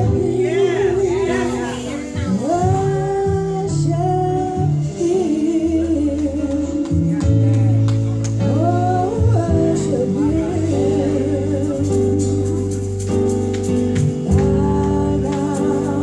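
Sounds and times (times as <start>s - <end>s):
women singing gospel in harmony: 0.0s - 7.1s, 8.4s - 12.4s, 14.3s - 16.0s
instrumental backing with bass line: 0.0s - 16.0s.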